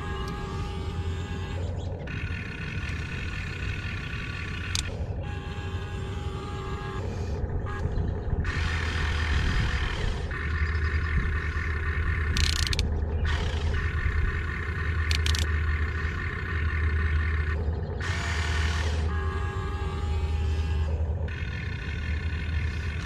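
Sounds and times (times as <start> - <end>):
electric gear motors whining: 0.0 - 23.0
steady low hum: 0.0 - 23.0.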